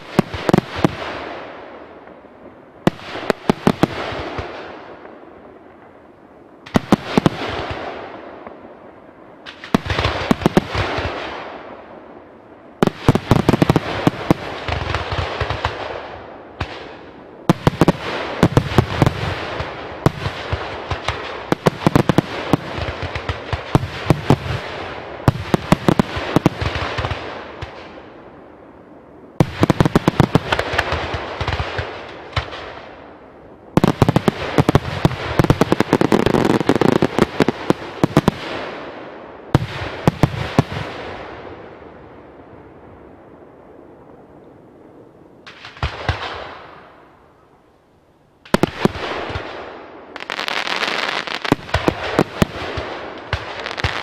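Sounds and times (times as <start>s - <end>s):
fireworks bangs and crackling: 0.0s - 6.0s, 6.6s - 8.8s, 9.4s - 28.6s, 29.4s - 42.0s, 45.4s - 47.0s, 48.4s - 54.0s.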